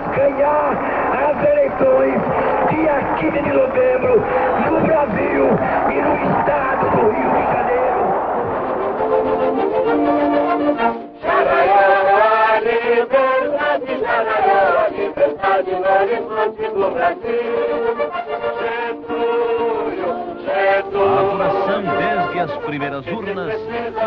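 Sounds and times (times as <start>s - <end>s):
group of voices singing: 0.0s - 24.0s
musical backing: 0.0s - 24.0s.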